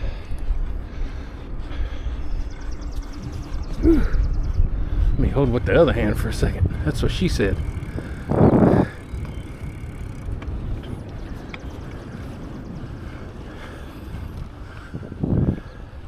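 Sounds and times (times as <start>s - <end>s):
faint rapid ticking: 0.0s - 15.5s
tyres on pavement: 0.0s - 16.0s
wind on microphone: 0.0s - 16.0s.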